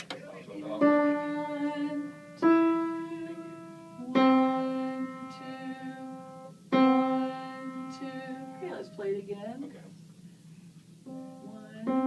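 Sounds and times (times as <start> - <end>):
piano notes: 0.6 - 9.5, 11.1 - 12.0.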